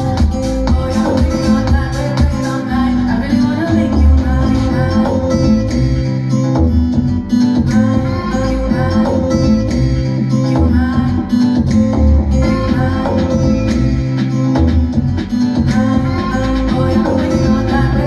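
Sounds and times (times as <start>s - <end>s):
song with guitar and heavy bass: 0.0s - 18.0s.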